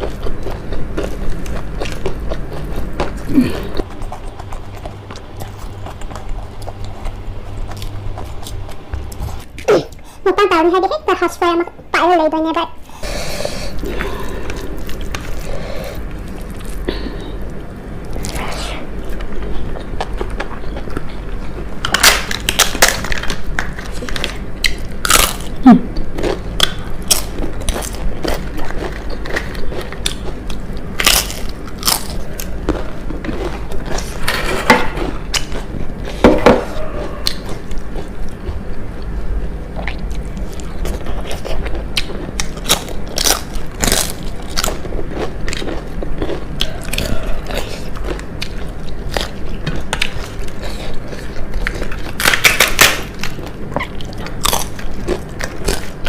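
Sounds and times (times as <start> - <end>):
person chewing crisp food: 0.0 - 10.2, 12.8 - 56.0.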